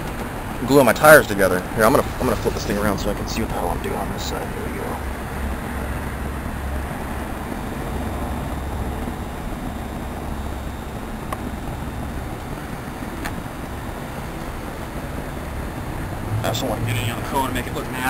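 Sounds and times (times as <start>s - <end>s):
low background rumble: 0.4s - 18.0s.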